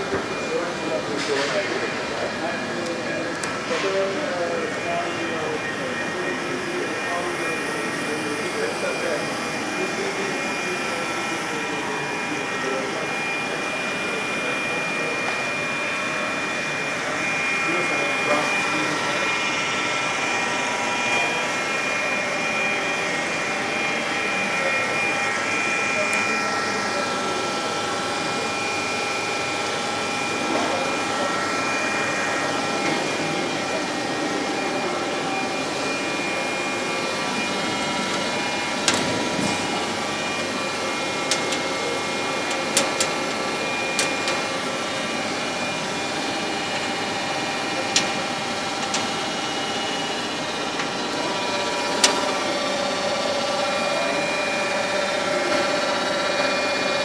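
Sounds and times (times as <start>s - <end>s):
hall background noise: 0.0s - 57.0s
machinery hum with whining tones: 0.0s - 57.0s.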